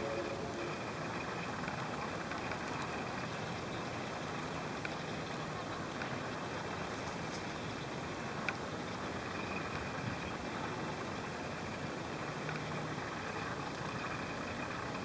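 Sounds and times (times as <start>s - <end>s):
faint ticks: 0.1s - 15.0s.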